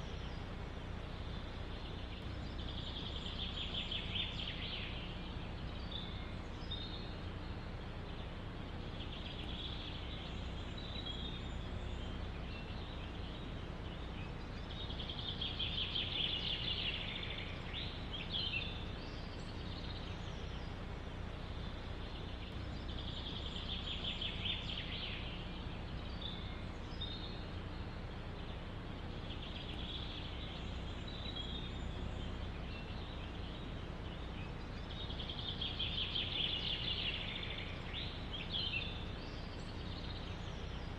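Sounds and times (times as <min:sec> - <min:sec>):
songbirds trilling: 0:00.0 - 0:40.9
wind through forest: 0:00.0 - 0:40.9.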